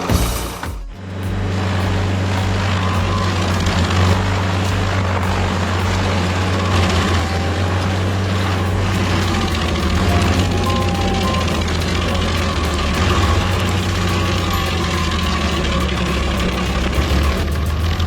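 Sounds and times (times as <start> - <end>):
heavy machine engine drone: 0.9 - 18.0.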